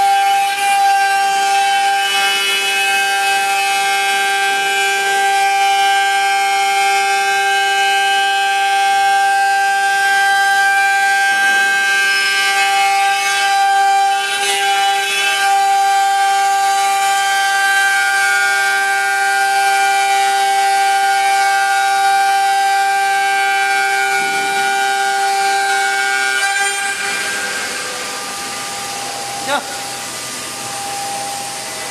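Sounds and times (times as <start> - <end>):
router spindle high whine: 0.0 - 31.9.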